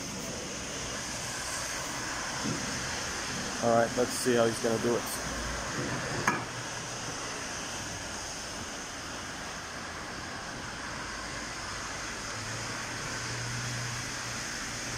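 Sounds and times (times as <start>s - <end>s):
garage background hiss: 0.0s - 14.9s.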